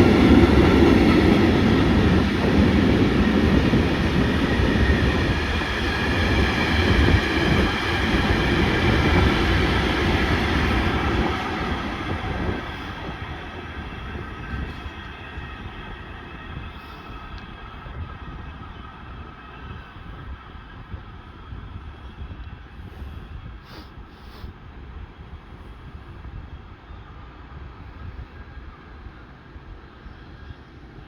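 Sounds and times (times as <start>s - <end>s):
freight train rumbling on rails: 0.0s - 31.0s.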